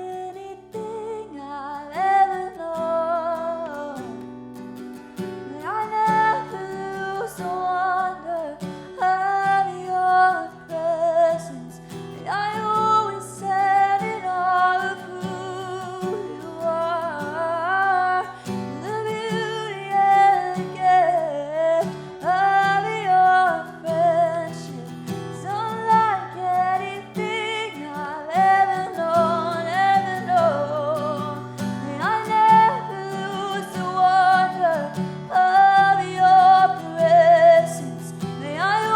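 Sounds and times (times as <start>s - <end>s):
acoustic guitar chords: 0.0s - 38.9s
person singing with vibrato: 5.5s - 38.9s.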